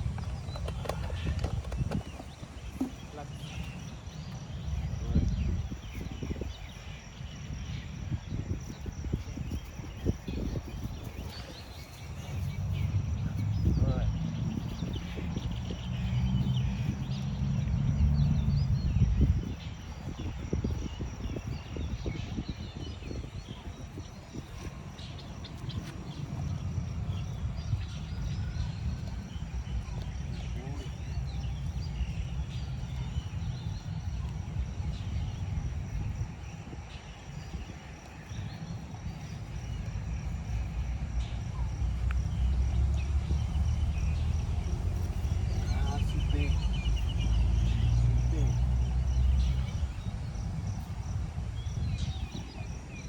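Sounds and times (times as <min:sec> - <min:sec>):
small birds chirping: 0:00.0 - 0:53.0
wind buffeting microphone: 0:00.0 - 0:53.0.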